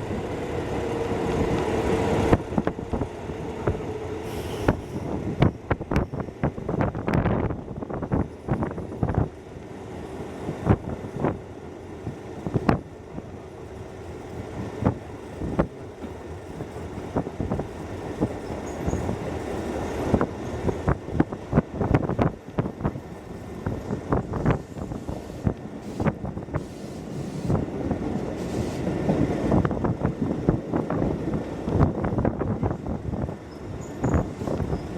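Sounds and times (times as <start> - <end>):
electric train rumbling: 0.0 - 34.9.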